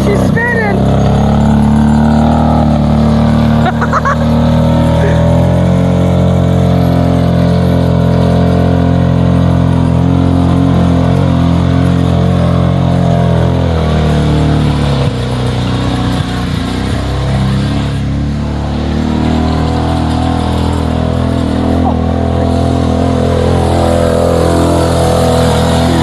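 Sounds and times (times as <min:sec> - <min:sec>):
quad bike engine at high revs: 0:00.0 - 0:26.0
wheels spinning: 0:00.0 - 0:26.0.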